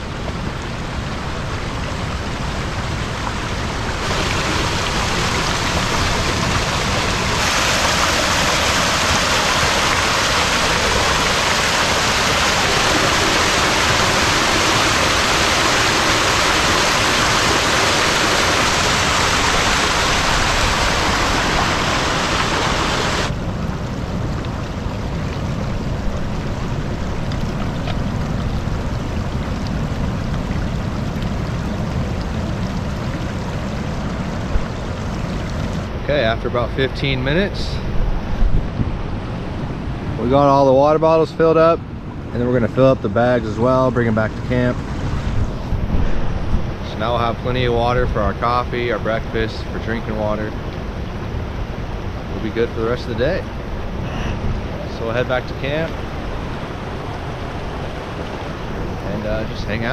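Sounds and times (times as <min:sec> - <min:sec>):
creek water rushing and splashing: 0:00.0 - 0:59.9.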